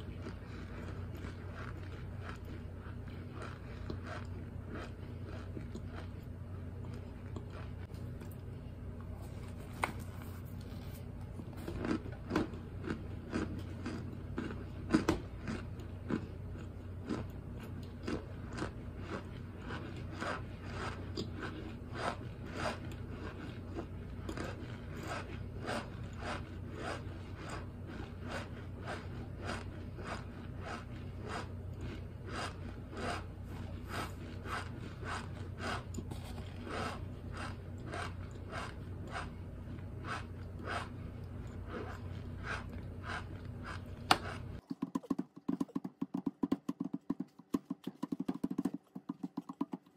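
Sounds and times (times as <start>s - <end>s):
mouth chewing crunchy food: 0.0s - 49.9s.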